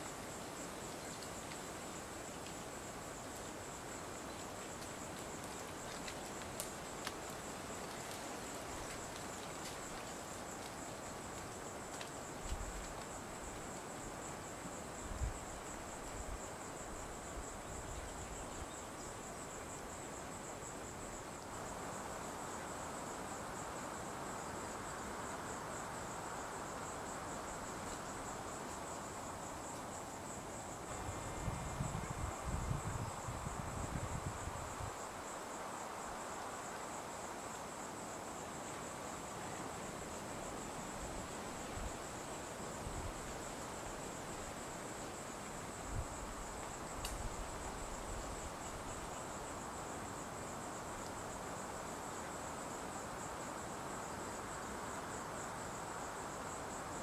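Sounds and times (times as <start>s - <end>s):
background hiss: 0.0s - 57.0s
insect chorus trilling: 0.0s - 57.0s.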